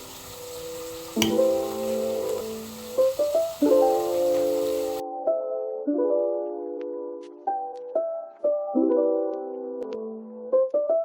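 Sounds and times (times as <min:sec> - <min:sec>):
background music: 0:00.3 - 0:11.0.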